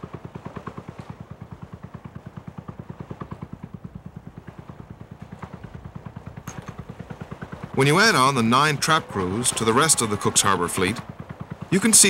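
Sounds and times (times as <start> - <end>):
boat engine putt-putting: 0.0 - 12.0.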